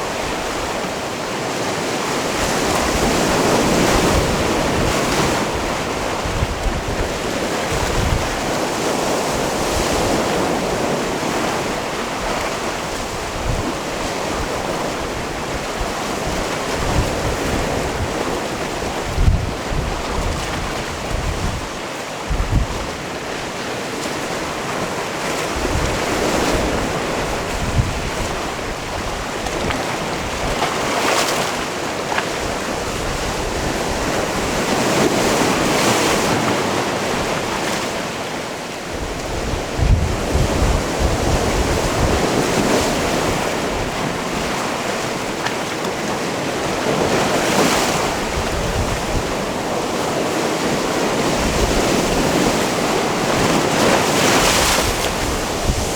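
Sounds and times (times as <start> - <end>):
sea waves breaking on rocks: 0.0 - 55.9
wind buffeting microphone: 0.0 - 55.9.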